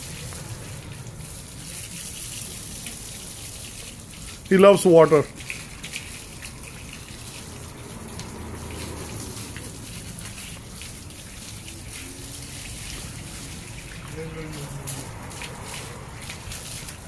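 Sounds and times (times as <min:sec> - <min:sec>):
hose water spraying and splashing: 0:00.0 - 0:17.0.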